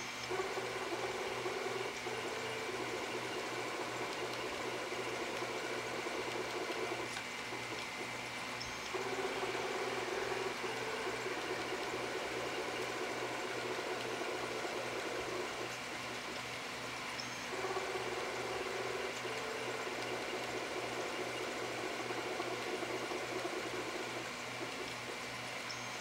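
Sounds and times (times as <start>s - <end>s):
steady whine: 0.0s - 26.0s
stepper motors whirring: 0.0s - 26.0s.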